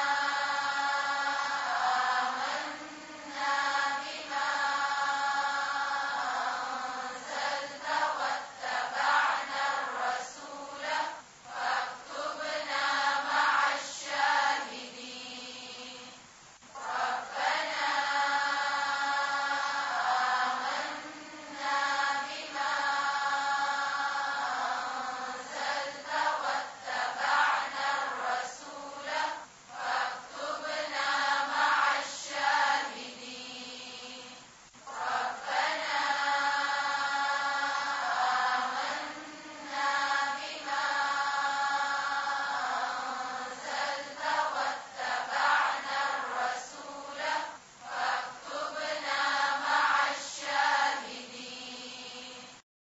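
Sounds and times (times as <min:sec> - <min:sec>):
voices chanting together: 0:00.0 - 0:52.6.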